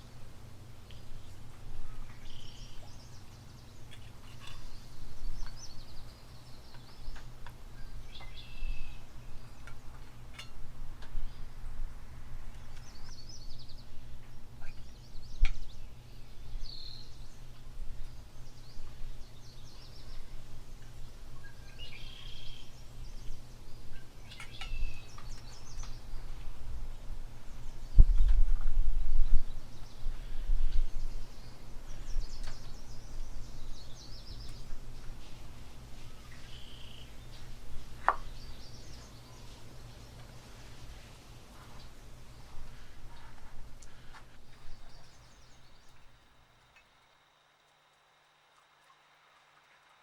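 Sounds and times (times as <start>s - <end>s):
small birds chirping: 0.0s - 11.7s, 12.5s - 50.0s.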